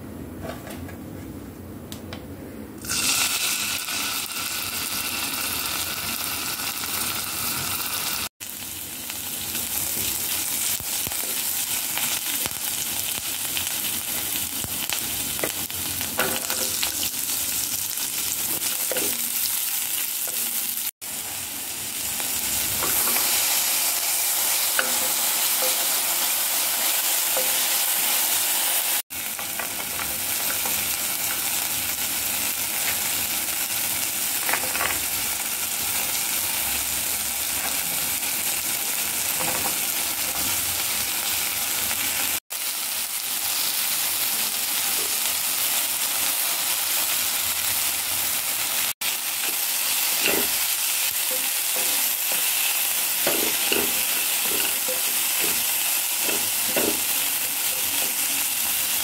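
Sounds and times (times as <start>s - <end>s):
vegetables sizzling in a wok: 2.8s - 59.0s.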